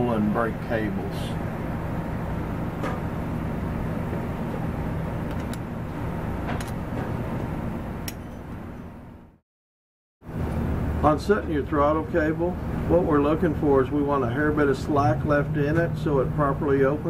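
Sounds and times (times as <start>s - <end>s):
shop mechanical hum: 0.0s - 9.4s, 10.2s - 17.0s.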